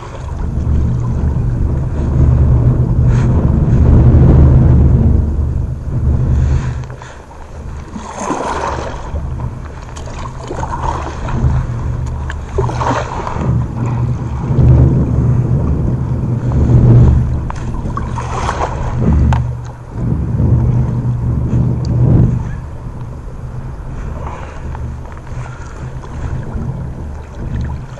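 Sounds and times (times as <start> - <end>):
water lapping: 0.0 - 27.9
wind buffeting microphone: 0.0 - 27.9.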